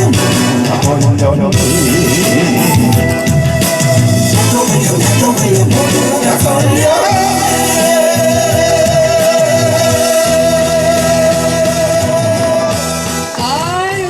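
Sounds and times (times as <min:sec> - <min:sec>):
backing track music: 0:00.0 - 0:14.0.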